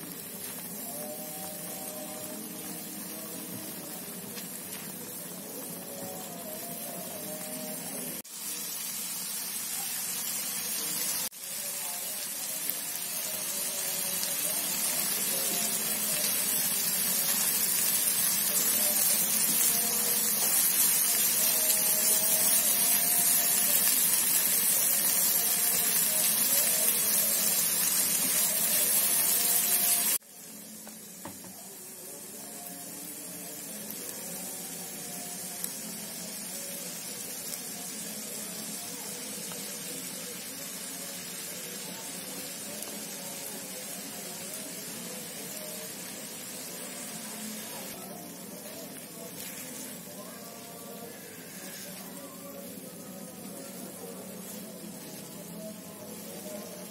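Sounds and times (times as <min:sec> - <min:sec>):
spice paste sizzling in oil: 0:00.0 - 0:56.9.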